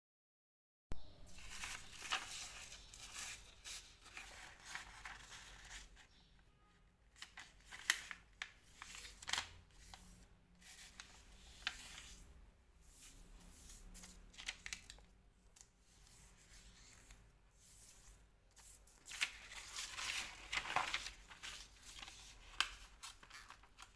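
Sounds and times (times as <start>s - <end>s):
paper rustling and creasing: 1.3s - 6.1s, 7.1s - 12.3s, 12.9s - 23.9s.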